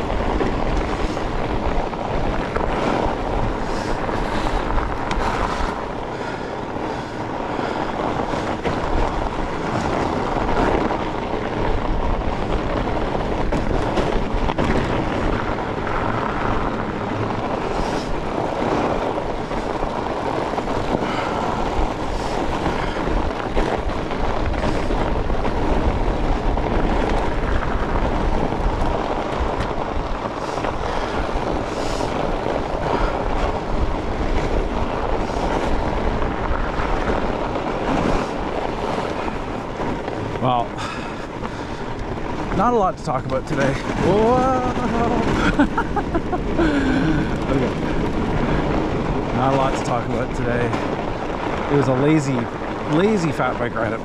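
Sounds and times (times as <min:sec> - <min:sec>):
fat bike tyres rolling on snow: 0:00.0 - 0:54.0
wind on microphone: 0:00.0 - 0:54.0.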